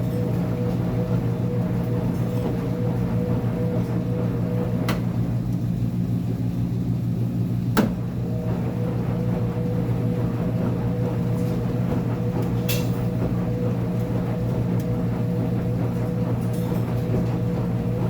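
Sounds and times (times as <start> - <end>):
washing machine motor hum and whine: 0.0 - 18.0.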